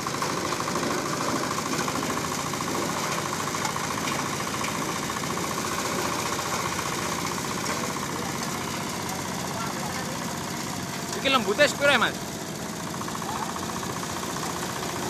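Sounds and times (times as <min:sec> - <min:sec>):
chopper shredding grass: 0:00.0 - 0:15.0
diesel engine knocking: 0:00.0 - 0:15.0.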